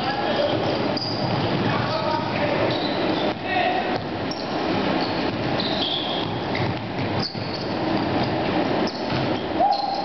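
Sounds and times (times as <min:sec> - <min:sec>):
sneaker squeaks: 0:00.0 - 0:10.0
footsteps on hardwood court: 0:00.5 - 0:09.6.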